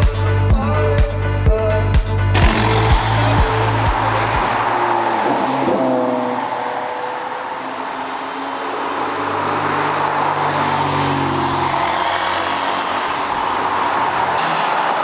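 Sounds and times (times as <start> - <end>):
car engines running: 2.3 - 15.0.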